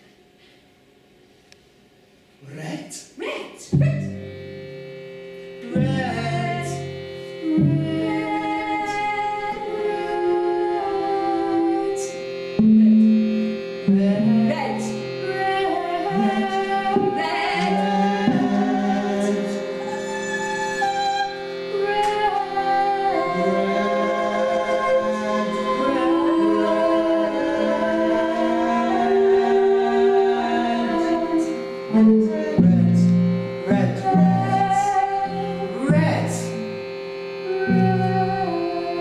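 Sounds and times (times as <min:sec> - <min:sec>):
keyboard drone: 0:03.7 - 0:39.0
violin playing: 0:03.8 - 0:39.0
woman singing: 0:05.6 - 0:36.7, 0:37.4 - 0:39.0.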